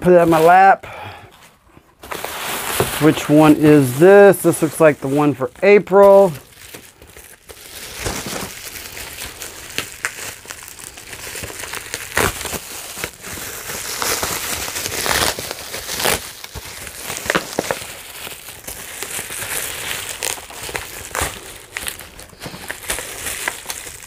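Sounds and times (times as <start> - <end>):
bubble wrap crinkling: 0.0 - 24.0
bubble wrap crackles: 1.5 - 24.0.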